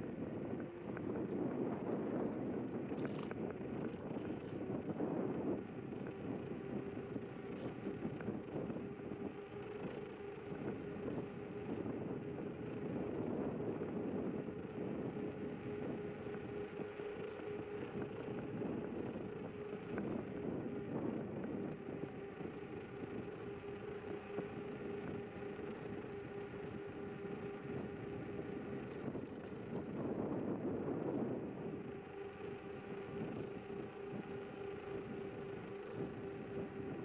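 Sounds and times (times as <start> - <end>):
electric scooter motor whine: 0.0 - 37.0.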